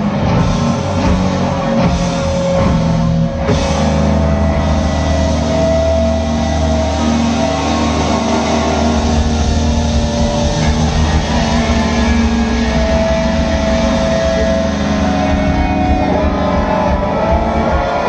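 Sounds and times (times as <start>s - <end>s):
drums: 0.0s - 18.0s
electric guitars: 0.0s - 18.0s
heavy low drone: 0.0s - 18.0s.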